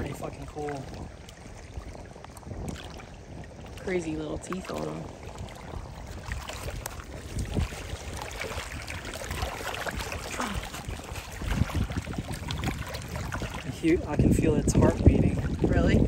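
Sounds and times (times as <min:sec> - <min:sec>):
short knocks and splashes: 0:00.0 - 0:16.0
water lapping at shore: 0:00.0 - 0:16.0
wind buffeting microphone: 0:00.0 - 0:16.0.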